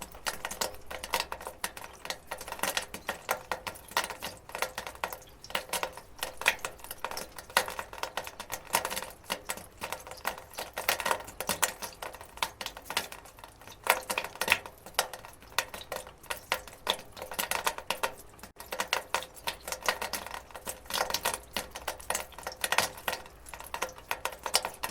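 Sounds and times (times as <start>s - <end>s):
water dripping on metal gutter: 0.0s - 24.9s.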